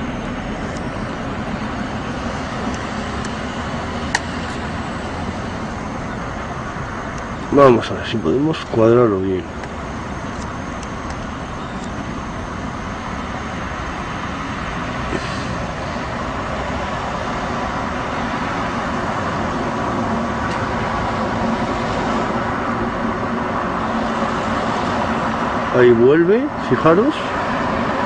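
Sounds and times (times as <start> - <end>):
city traffic hum: 0.0 - 28.0.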